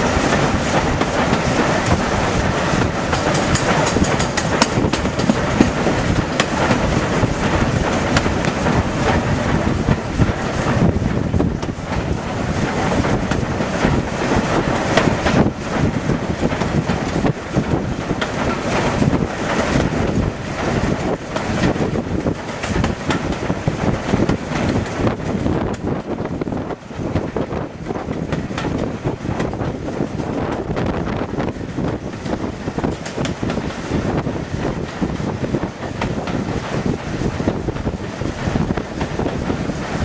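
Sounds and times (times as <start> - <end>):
wheels running on rails: 0.0 - 40.0
wind buffeting microphone: 0.0 - 40.0.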